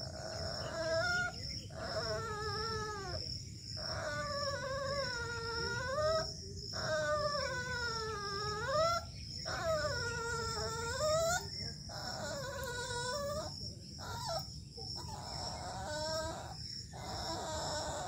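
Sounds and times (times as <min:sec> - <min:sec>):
puppy whining: 0:00.0 - 0:18.0.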